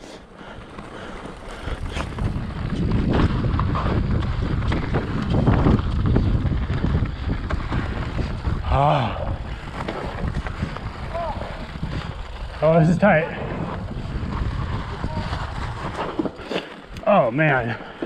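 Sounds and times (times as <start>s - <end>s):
bike knocking and rattling: 0.0s - 18.0s
tyres rolling over dirt: 0.0s - 18.0s
wind rushing over microphone: 1.4s - 17.0s.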